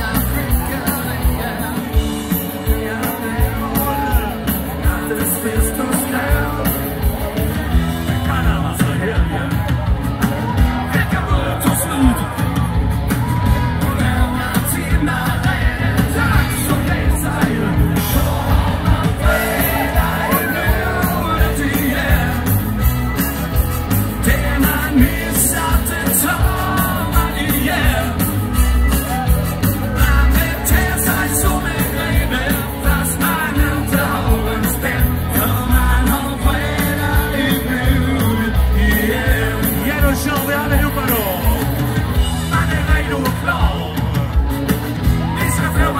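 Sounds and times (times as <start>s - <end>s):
person singing: 0.0s - 9.8s, 10.4s - 22.9s, 23.9s - 44.4s
crowd yelling: 0.0s - 45.9s
live band music: 0.0s - 45.9s.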